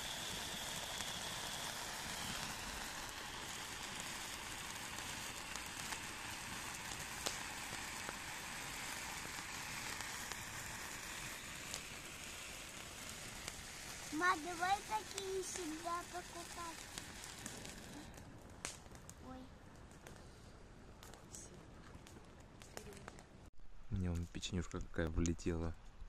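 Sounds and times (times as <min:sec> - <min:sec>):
firework fountain hissing: 0:00.0 - 0:23.2
small crackles: 0:00.0 - 0:26.0.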